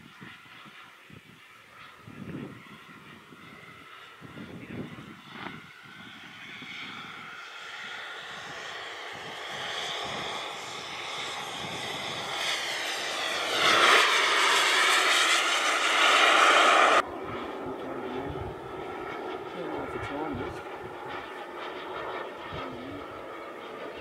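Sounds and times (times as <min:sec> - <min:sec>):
model jet turbine whooshing past: 0:00.0 - 0:24.0.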